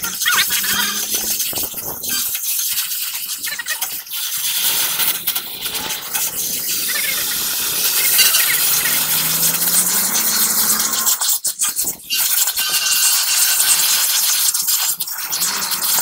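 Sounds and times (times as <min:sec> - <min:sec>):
cutting torch hissing: 0:00.0 - 0:16.0.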